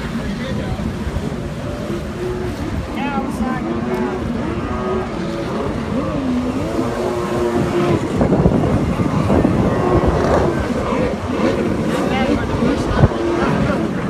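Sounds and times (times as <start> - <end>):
personal watercraft engines racing: 0.0 - 14.0
rushing water and wind: 0.0 - 14.0.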